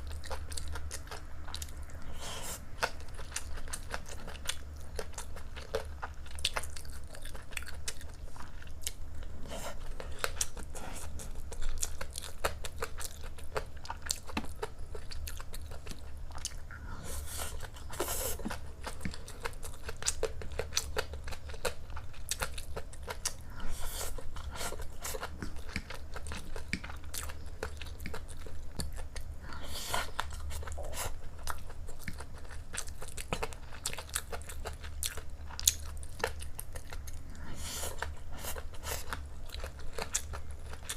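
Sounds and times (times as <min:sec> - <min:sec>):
chewing with mouth clicks: 0:00.0 - 0:40.9.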